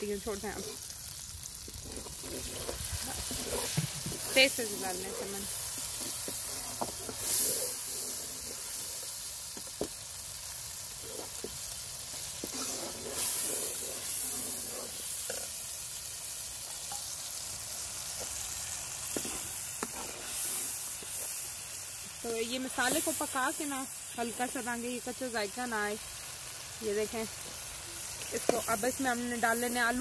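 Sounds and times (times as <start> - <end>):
masala sizzling and bubbling in pan: 0.0 - 30.0.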